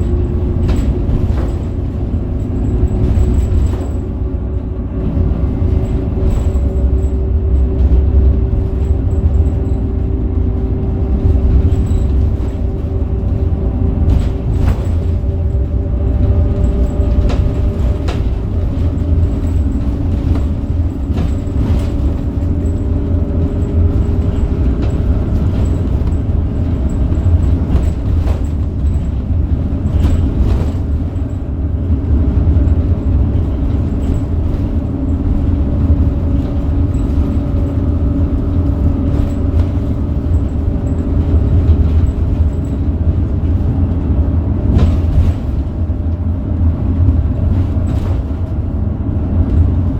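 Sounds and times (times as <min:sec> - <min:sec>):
bus engine rumbling: 0:00.0 - 0:49.9.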